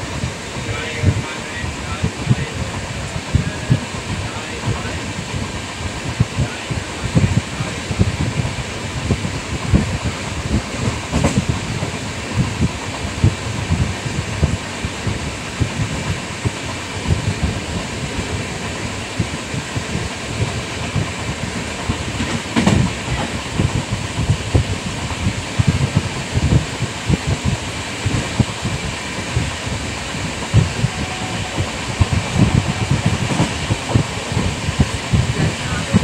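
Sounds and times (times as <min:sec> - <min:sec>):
train rumble from inside coach: 0:00.0 - 0:36.0.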